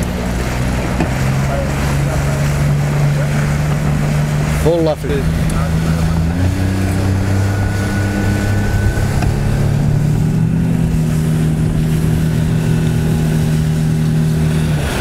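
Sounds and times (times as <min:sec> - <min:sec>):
motorboat engine running: 0:00.0 - 0:15.0
wind and water hiss: 0:00.0 - 0:15.0.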